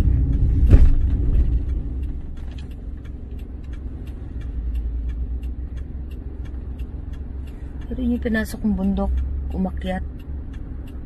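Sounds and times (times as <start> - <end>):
car driving heard from inside: 0.0 - 11.0
faint ticks: 0.0 - 11.0.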